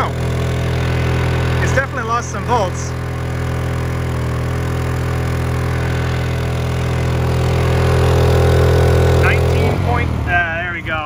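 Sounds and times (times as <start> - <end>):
generator running: 0.0 - 11.0.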